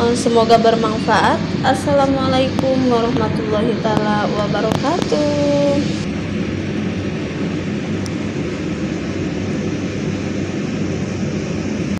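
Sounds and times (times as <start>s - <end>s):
steady low rumbling: 0.0s - 11.9s.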